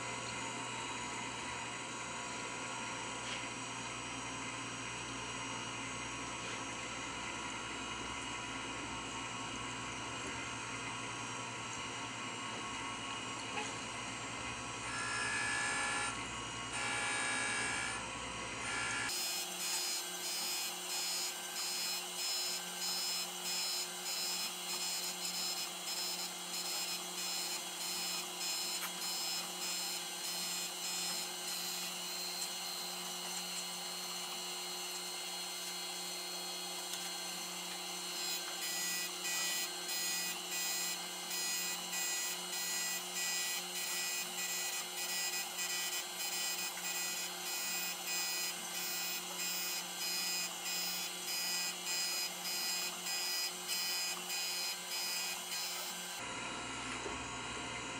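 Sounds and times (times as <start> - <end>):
grinder motor hum: 0.0 - 57.9.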